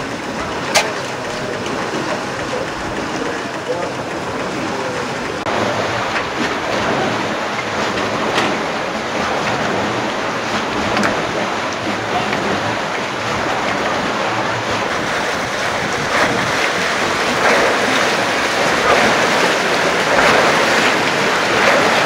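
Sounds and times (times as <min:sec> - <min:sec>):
rushing churning water: 0:00.0 - 0:22.0.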